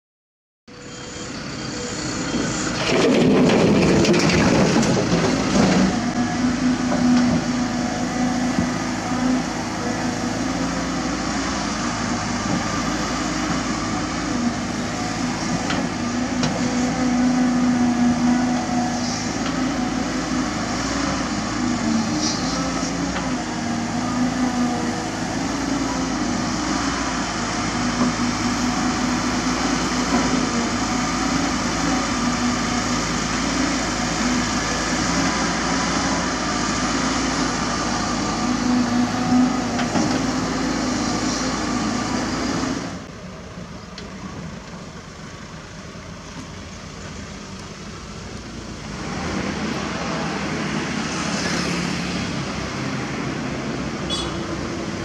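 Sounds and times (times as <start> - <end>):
excavator diesel engine under load: 0.7 - 55.0.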